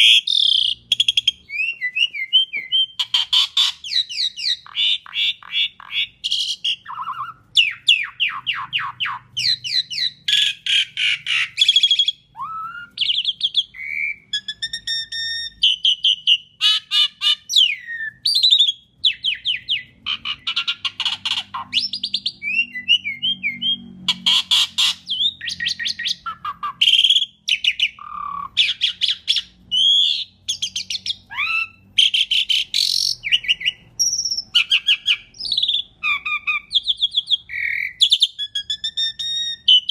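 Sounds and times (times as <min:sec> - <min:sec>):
starling singing trills and whistles: 0:00.0 - 0:39.9.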